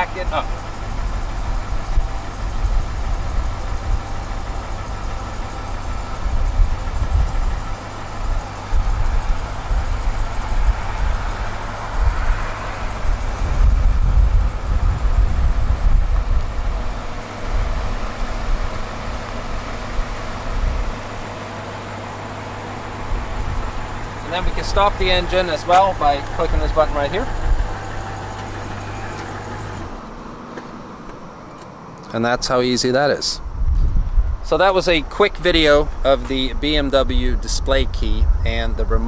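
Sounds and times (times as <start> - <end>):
gusty low rumble: 0.0 - 30.2, 33.4 - 39.0
car engine idling: 0.0 - 39.0.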